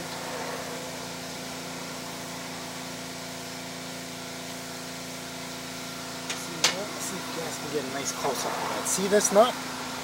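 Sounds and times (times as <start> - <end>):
fan machine hum: 0.0 - 10.0.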